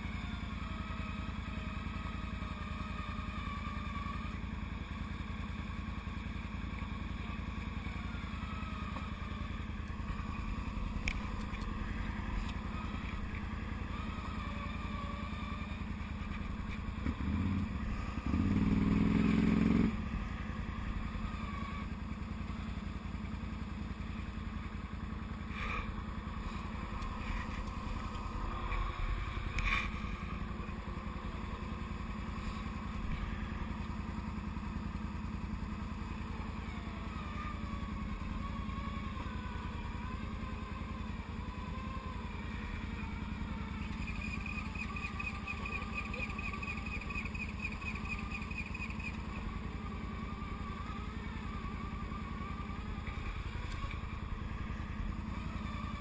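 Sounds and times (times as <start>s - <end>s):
atv engine running: 0.0s - 56.0s
high rhythmic winch whir: 0.0s - 56.0s.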